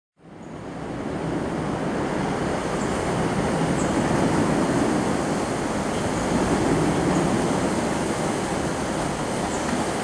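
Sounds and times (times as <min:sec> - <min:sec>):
passenger train wheel noise: 0:01.1 - 0:10.0.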